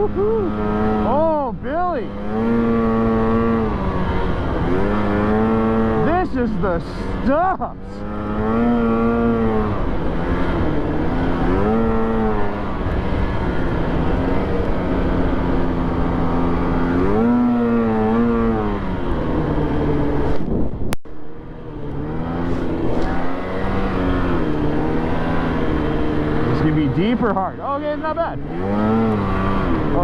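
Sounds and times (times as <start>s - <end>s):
snowmobile engine revving: 0.0s - 20.5s, 21.3s - 30.0s.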